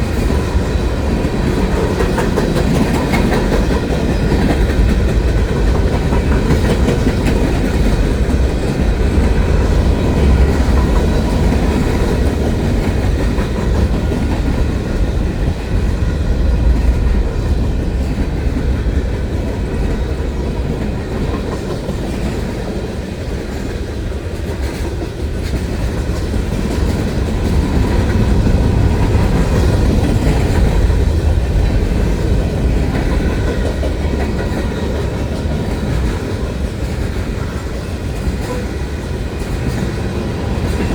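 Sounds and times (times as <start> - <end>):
train cars rumbling past: 0.0 - 40.9
wheels clacking over rail joints: 0.0 - 40.9.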